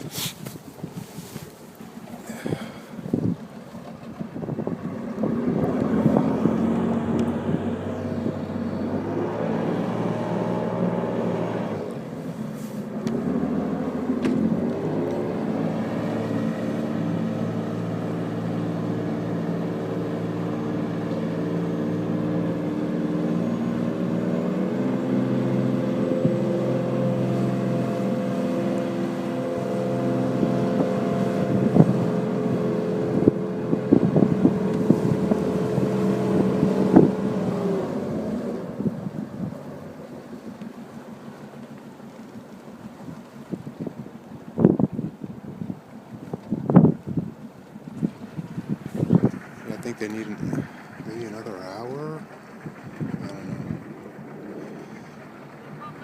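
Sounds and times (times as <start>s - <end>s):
tugboat diesel engine under load: 0.0s - 56.0s.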